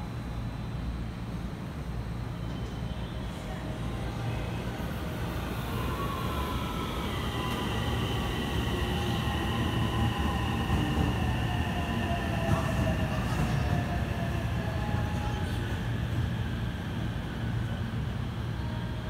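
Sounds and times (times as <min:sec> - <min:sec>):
train wheels rumbling on rail: 0:02.5 - 0:18.6.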